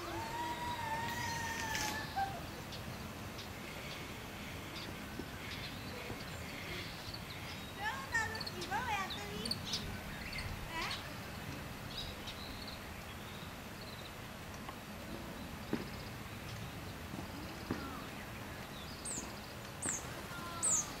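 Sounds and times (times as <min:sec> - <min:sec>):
small birds chirping: 0:00.0 - 0:21.0
steady outdoor hiss: 0:00.0 - 0:21.0.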